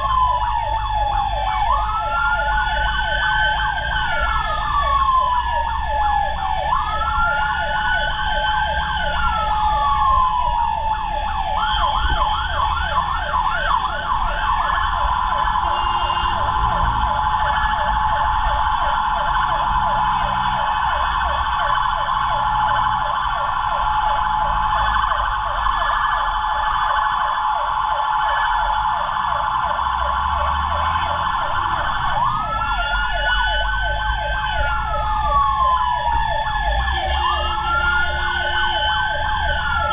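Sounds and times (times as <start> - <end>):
fire truck siren wailing: 0.0 - 39.9
rapid pulsing siren tone: 0.0 - 39.9.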